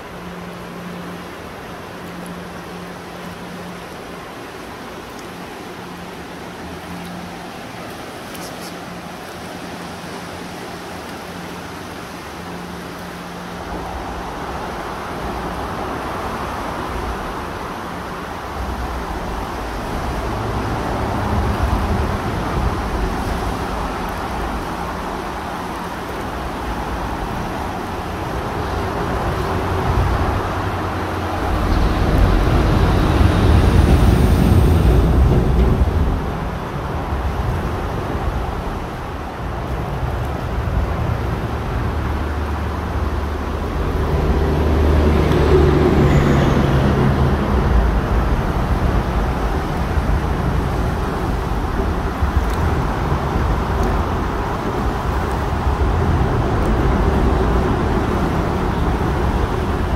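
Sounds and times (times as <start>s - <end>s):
river rushing over rapids: 0.0s - 59.9s
road traffic rumble: 0.0s - 59.9s.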